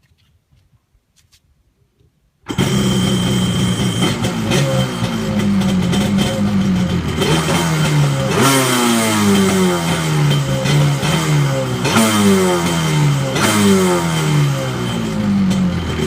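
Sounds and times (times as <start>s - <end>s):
jet ski engine revving: 2.5s - 16.0s.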